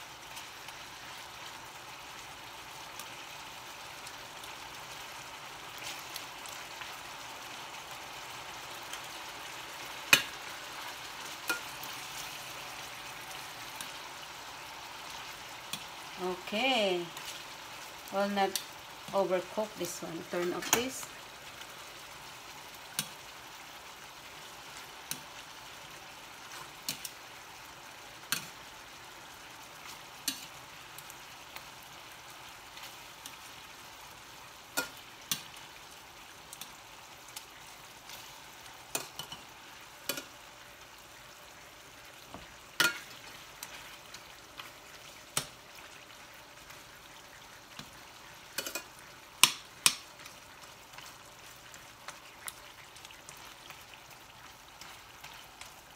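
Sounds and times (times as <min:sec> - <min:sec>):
beef sizzling in a skillet: 0:00.0 - 0:55.9.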